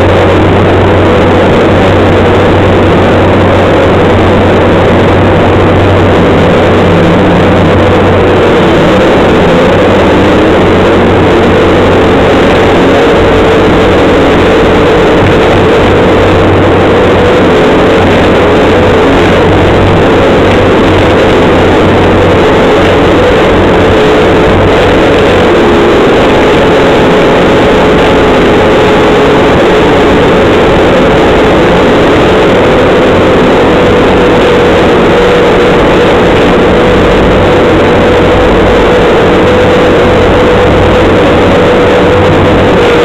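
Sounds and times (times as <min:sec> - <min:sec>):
loader engine drone with whine: 0:00.0 - 0:43.0.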